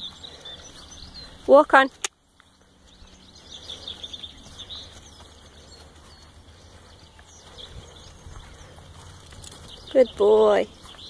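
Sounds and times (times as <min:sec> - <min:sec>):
small birds chirping: 0:00.0 - 0:11.0
faint low outdoor rumble: 0:02.1 - 0:11.0.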